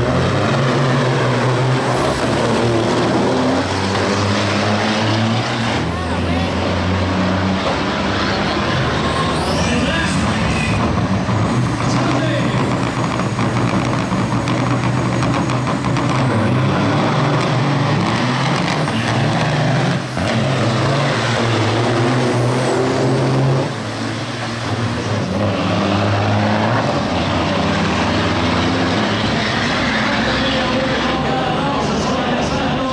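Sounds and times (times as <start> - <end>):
diesel truck engines at full throttle: 0.0 - 32.9.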